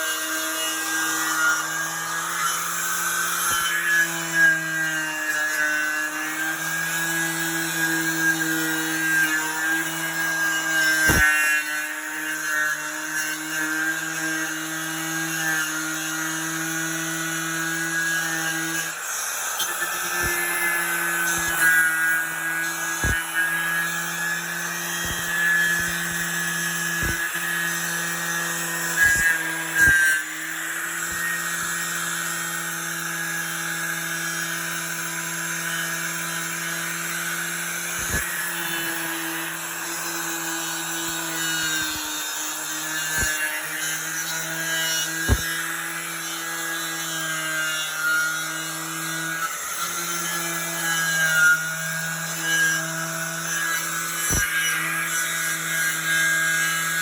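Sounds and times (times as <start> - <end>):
angle grinder wire wheel on metal: 1.6 - 14.2, 14.9 - 48.2.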